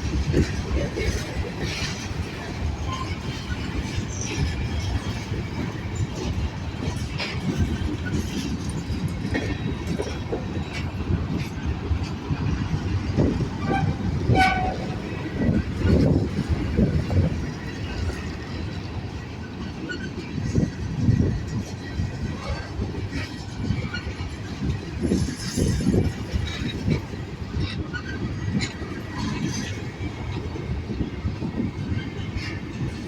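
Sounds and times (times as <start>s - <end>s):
freight train rolling past: 0.0s - 33.0s
wheels clacking on rails: 0.0s - 33.0s.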